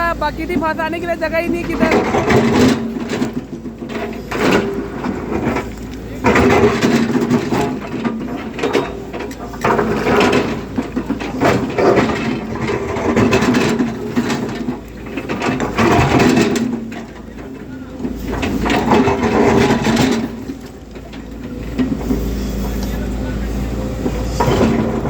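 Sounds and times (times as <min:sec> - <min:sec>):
excavator diesel engine: 0:00.0 - 0:25.0
scraping and clattering: 0:00.4 - 0:25.0.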